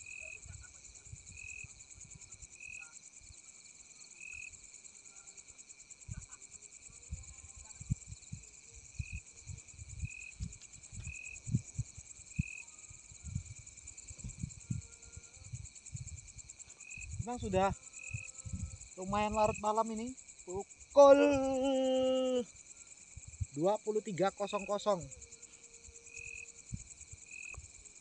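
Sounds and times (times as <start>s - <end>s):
cricket trill: 0.0s - 28.0s
low short insect chirp: 0.0s - 28.0s.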